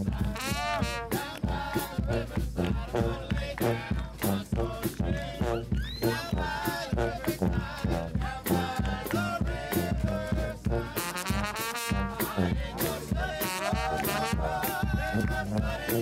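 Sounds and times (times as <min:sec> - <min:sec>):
upbeat band music with horns: 0:00.0 - 0:16.0.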